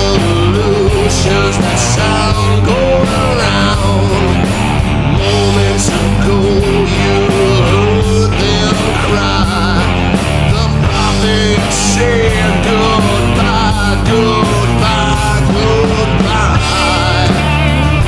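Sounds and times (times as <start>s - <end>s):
bass and drums: 0.0s - 18.0s
distorted electric guitar: 0.0s - 18.0s
wavering lead guitar line: 0.0s - 18.0s.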